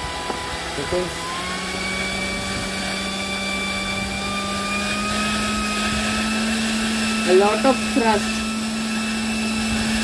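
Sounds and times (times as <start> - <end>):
electric fan whine: 0.0 - 10.0.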